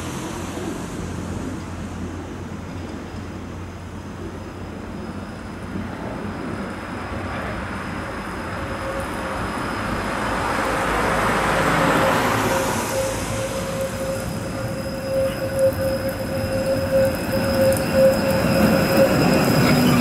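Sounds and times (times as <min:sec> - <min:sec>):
tram wheels squealing: 0:00.0 - 0:20.0.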